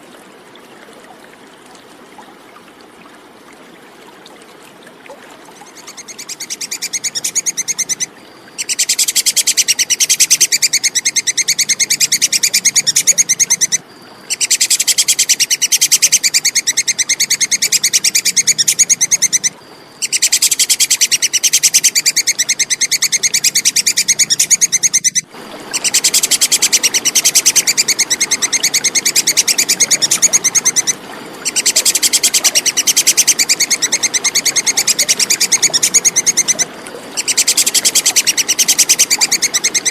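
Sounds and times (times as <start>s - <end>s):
squirrel chattering: 5.9s - 25.2s, 25.8s - 39.9s.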